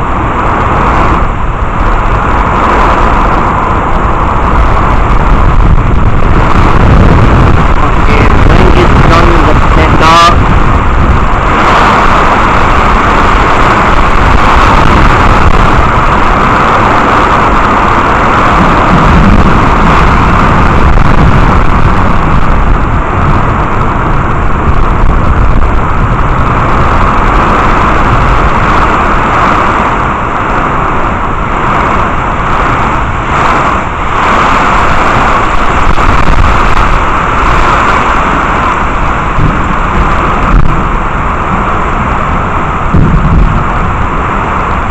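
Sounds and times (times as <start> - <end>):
heavy rain rushing: 0.0 - 44.9
low thunder rumble: 0.0 - 44.9.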